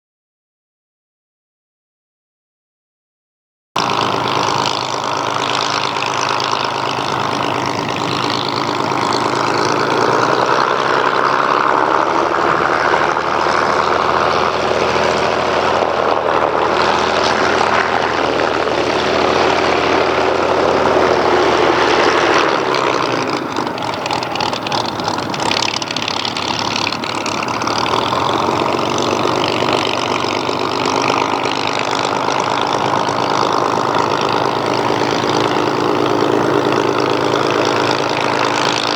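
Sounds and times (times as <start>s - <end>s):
propeller aircraft engine droning: 3.8s - 38.9s.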